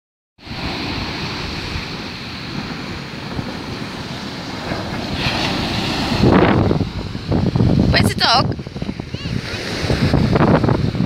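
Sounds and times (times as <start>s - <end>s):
surf breaking on beach: 0.4s - 11.0s
wind buffeting microphone: 0.5s - 11.0s.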